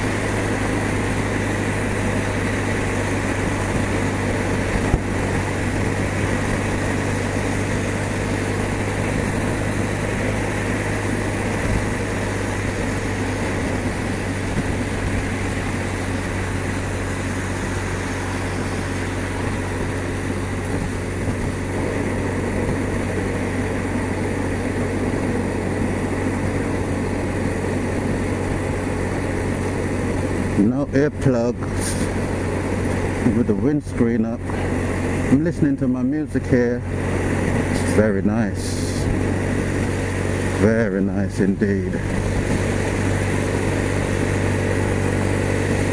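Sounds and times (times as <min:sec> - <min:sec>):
motorcycle engine cruising: 0:00.0 - 0:45.9
wind and road noise: 0:00.0 - 0:45.9.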